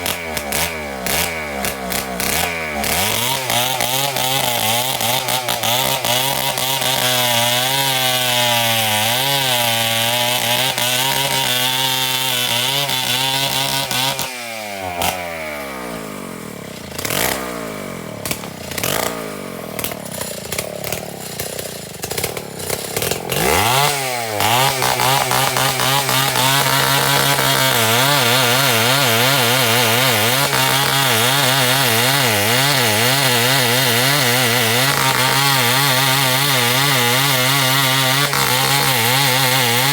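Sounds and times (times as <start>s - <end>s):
chainsaw cutting timber: 0.0s - 39.9s
chainsaw idling: 0.0s - 39.9s.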